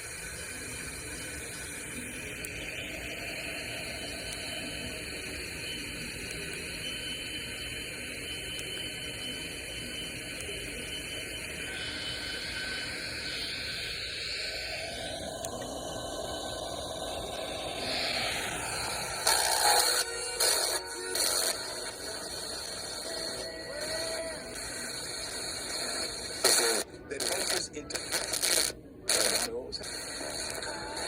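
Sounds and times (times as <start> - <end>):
radio static hiss: 0.0 - 31.0
faint tones: 0.1 - 25.3.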